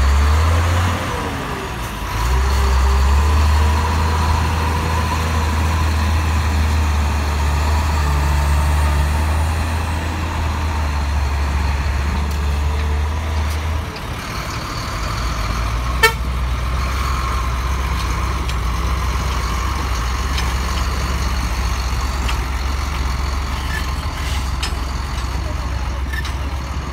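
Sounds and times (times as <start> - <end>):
concrete mixer truck drone: 0.0 - 26.9
excavator and truck engine drone: 0.0 - 26.9.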